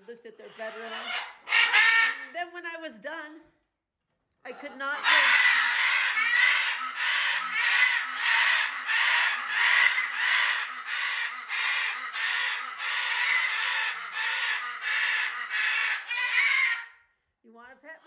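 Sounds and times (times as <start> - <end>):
macaws screaming: 0.4 - 2.4, 4.5 - 17.1.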